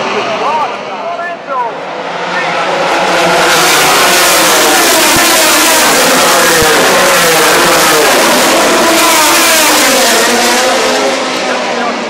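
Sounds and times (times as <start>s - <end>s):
racing motorcycles passing at high revs: 1.8s - 12.0s.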